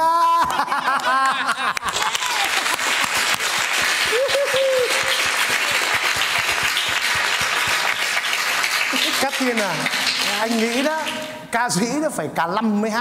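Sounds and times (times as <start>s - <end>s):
crowd applauding: 0.2s - 11.5s.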